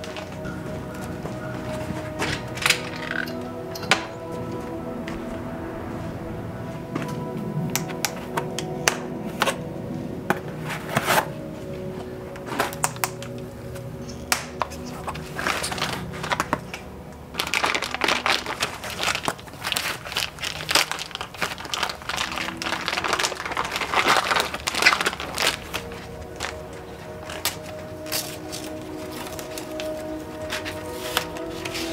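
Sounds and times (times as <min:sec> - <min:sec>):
foam and tape crinkling: 0:00.0 - 0:05.2, 0:10.3 - 0:31.9.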